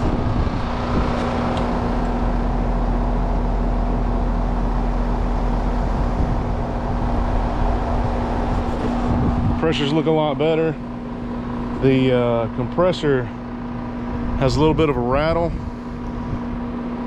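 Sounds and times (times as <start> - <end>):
compressor rattling: 0.0 - 17.0
heat pump humming: 0.0 - 17.0.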